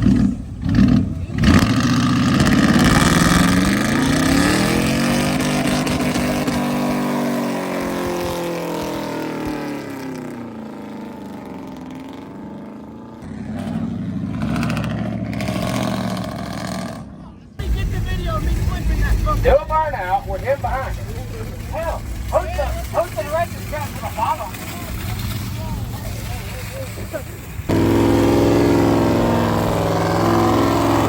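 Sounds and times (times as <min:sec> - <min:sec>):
another engine revving: 0:00.0 - 0:12.4, 0:13.2 - 0:31.0
truck engine revving: 0:00.0 - 0:31.0.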